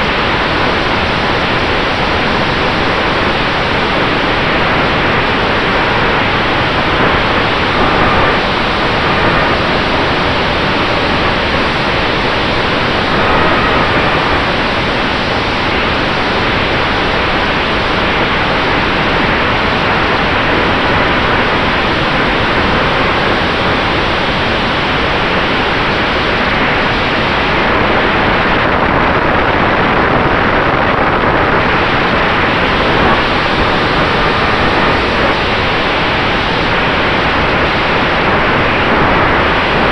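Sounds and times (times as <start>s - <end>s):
wind and propeller rush: 0.0s - 39.9s.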